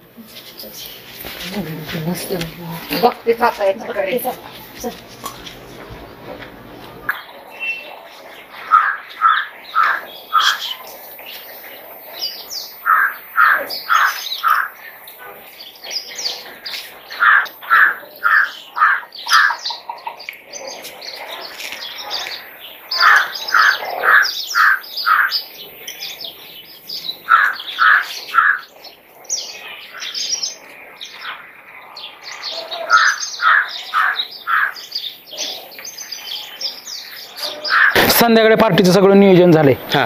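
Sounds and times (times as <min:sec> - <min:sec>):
bird calling clear notes: 0:07.0 - 0:31.5, 0:32.2 - 0:40.0
higher bird chirps: 0:07.0 - 0:40.0.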